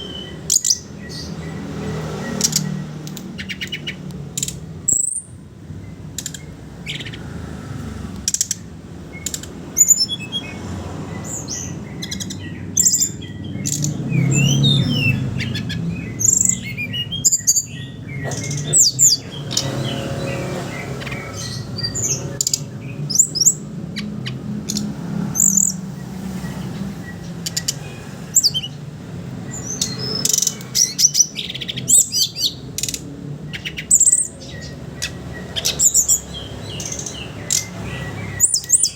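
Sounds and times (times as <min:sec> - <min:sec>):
bird singing twitters and whistles: 0:00.0 - 0:38.9.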